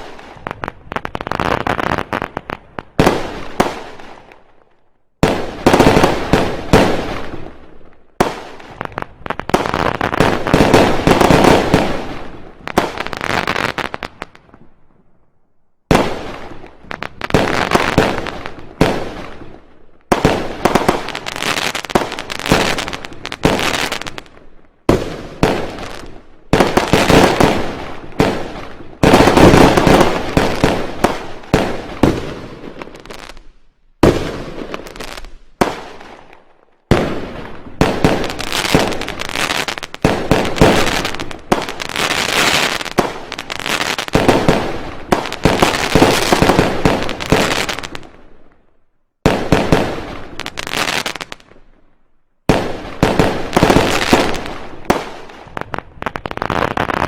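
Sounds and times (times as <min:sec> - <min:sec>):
fireworks bangs and crackling: 0:00.0 - 0:15.2, 0:15.8 - 0:57.0.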